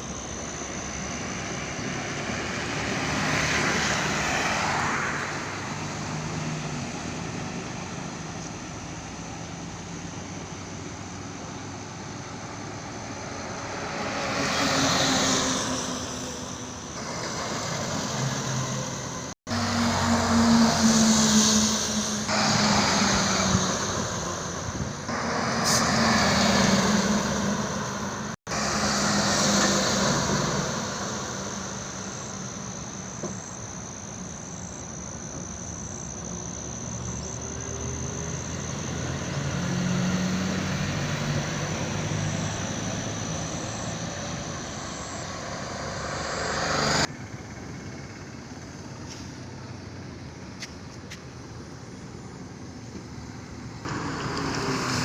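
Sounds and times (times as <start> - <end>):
heavy trucks passing: 0.0 - 55.0.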